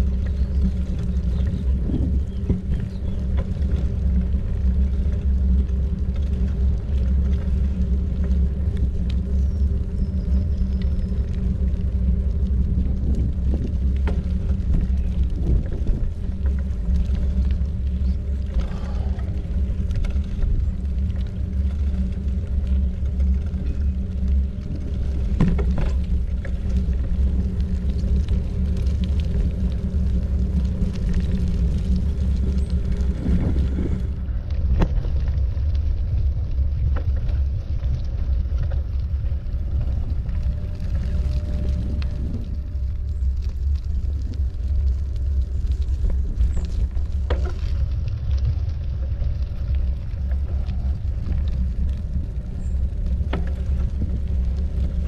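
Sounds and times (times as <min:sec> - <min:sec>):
faint hum: 0:00.0 - 0:55.0
wind and road noise: 0:00.0 - 0:55.0.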